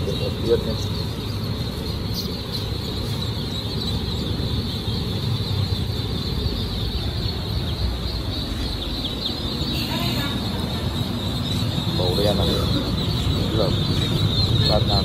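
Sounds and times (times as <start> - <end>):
ducklings peeping: 0.0 - 15.0
steady low rumble: 0.0 - 15.0.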